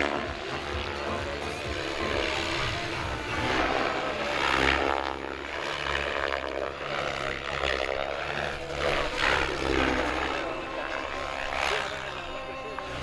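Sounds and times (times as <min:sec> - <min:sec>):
model airplane motor buzzing: 0:00.0 - 0:13.0.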